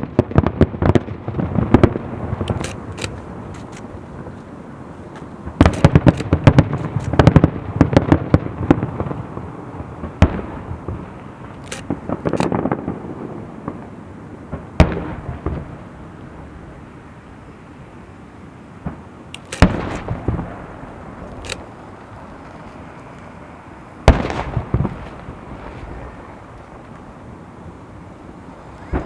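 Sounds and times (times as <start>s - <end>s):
fireworks booms with rolling echo: 0.0s - 17.5s, 18.8s - 29.0s
fireworks bangs and crackles: 0.0s - 17.6s, 18.8s - 29.0s.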